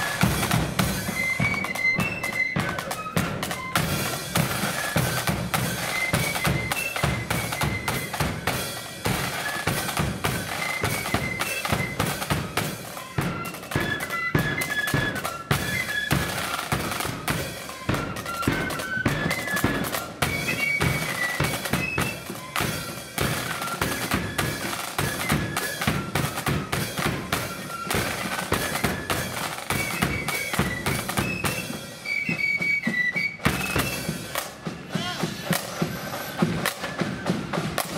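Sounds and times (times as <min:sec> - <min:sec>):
flutes playing high melody: 0:00.0 - 0:37.9
rapid snare drumming: 0:00.0 - 0:37.9.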